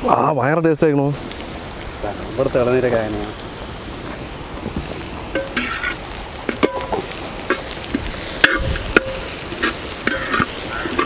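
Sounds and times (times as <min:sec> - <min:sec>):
onions frying in pan: 0:00.0 - 0:11.0.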